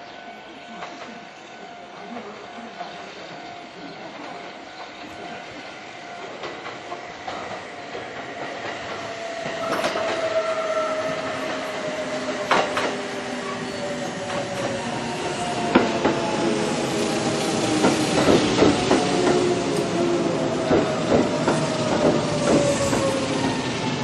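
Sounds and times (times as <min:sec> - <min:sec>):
electric train whine: 0:00.0 - 0:24.0
wheels clacking over rail joints: 0:04.2 - 0:24.0.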